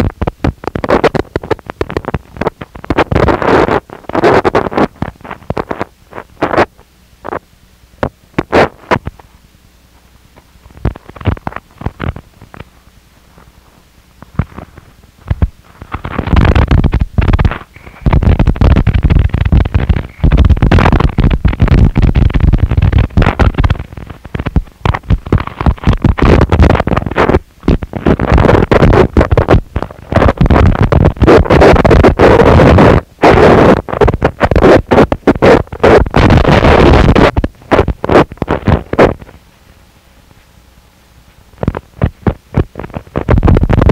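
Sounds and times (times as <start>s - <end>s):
crackling distortion bursts: 0.0s - 43.9s
harsh distorted noise wall: 0.0s - 43.9s.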